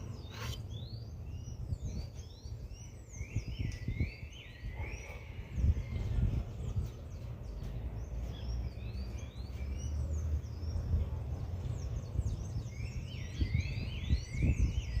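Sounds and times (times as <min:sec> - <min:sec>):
small birds chirping and twittering: 0:00.0 - 0:15.0.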